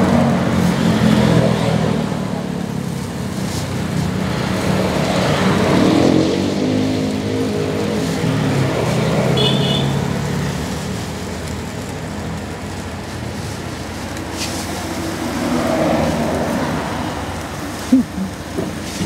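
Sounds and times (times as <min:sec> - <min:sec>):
passing engine hum: 0:00.0 - 0:19.0
road traffic noise: 0:00.0 - 0:19.0.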